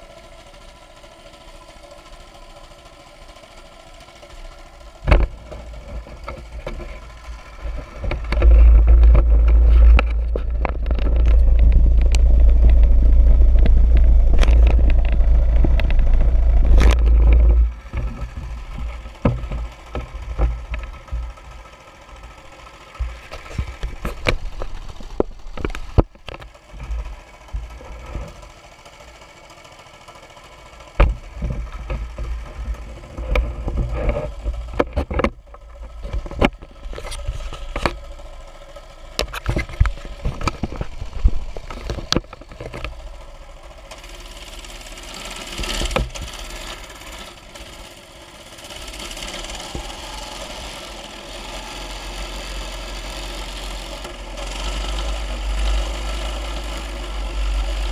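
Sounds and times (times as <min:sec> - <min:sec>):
small bike engine running: 0:00.0 - 0:57.9
tyres on gravel: 0:00.0 - 0:57.9
wind: 0:00.0 - 0:57.9
knocks and rattles from bumps: 0:04.0 - 0:28.7, 0:30.8 - 0:57.9.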